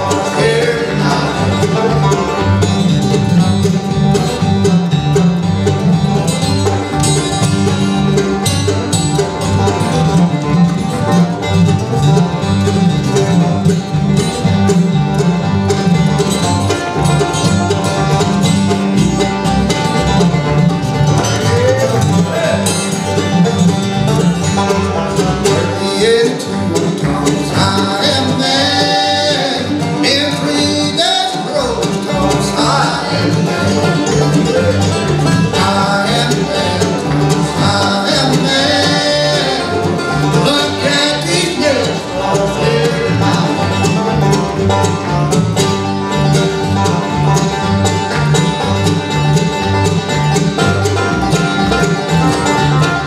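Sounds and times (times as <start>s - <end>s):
acoustic guitar: 0.0s - 53.0s
banjo: 0.0s - 53.0s
mandolin: 0.0s - 53.0s
upright bass: 0.0s - 53.0s.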